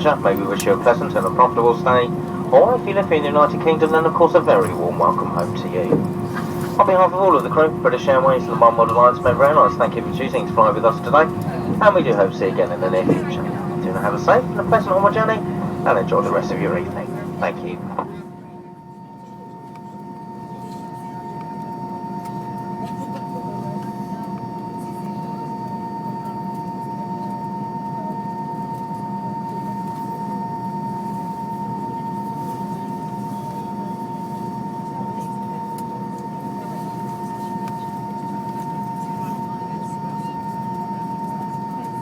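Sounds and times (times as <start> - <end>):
aircraft cabin hum: 0.0 - 42.0
jet engine whine at idle: 0.0 - 42.0.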